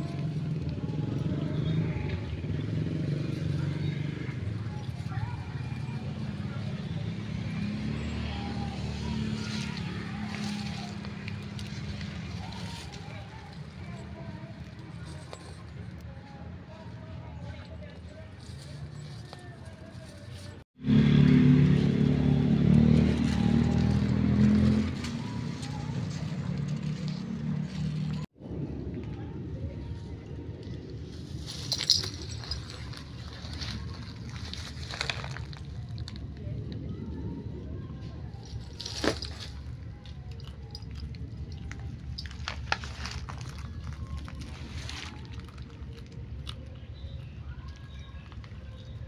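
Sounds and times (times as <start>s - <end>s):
leaves rustling and crackling: 0.0s - 16.0s, 18.2s - 20.6s, 21.8s - 28.3s, 30.4s - 36.7s, 38.3s - 49.0s
vehicle engine running: 0.0s - 49.0s.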